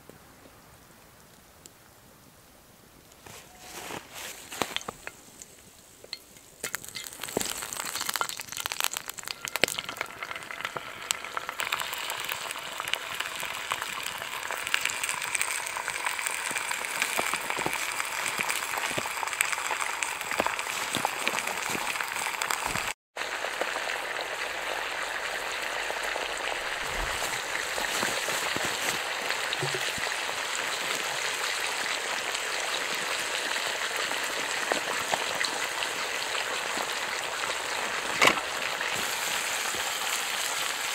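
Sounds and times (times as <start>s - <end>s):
bacon sizzling in a skillet: 5.0s - 40.9s.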